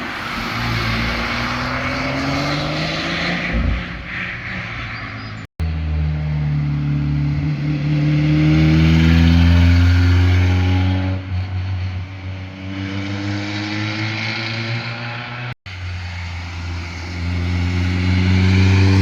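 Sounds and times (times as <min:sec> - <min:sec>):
car accelerating hard: 0:00.0 - 0:04.0, 0:06.5 - 0:11.4, 0:12.5 - 0:19.0.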